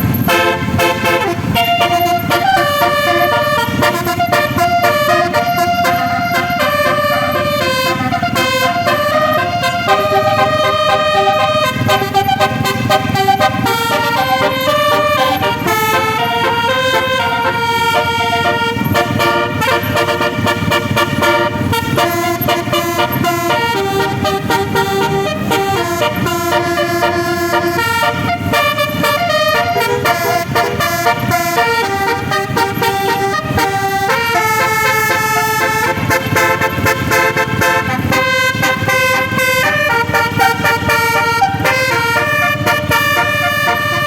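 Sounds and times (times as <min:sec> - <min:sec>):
bus engine rumble: 0:00.0 - 0:44.0
bus musical horn tune: 0:00.0 - 0:44.0.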